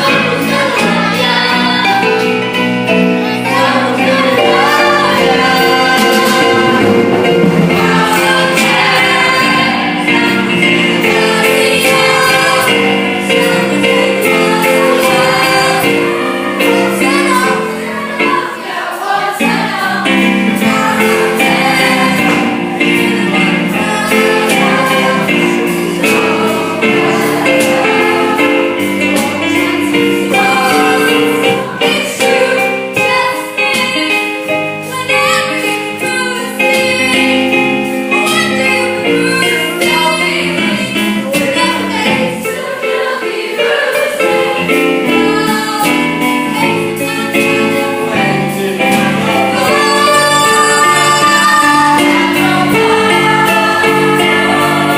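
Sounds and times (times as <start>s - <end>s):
group singing musical theatre: 0.0s - 54.9s
instrumental accompaniment: 0.0s - 54.9s.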